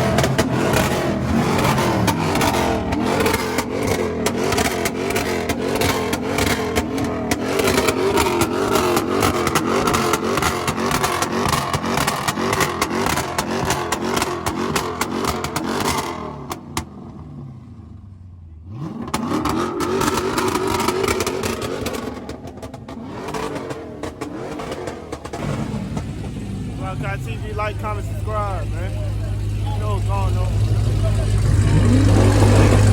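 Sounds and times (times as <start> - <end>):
car engine revving: 0.0 - 32.9
exhaust crackle: 0.0 - 32.9.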